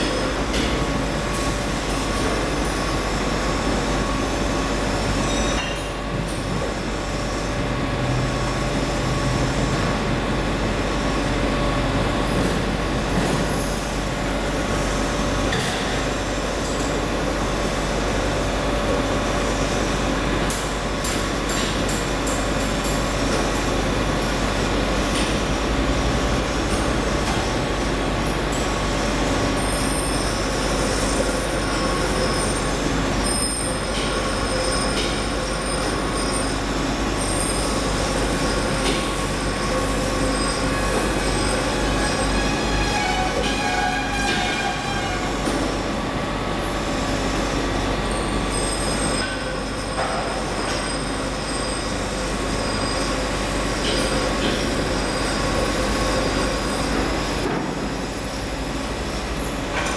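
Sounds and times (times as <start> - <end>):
machinery hum: 0.0 - 59.9.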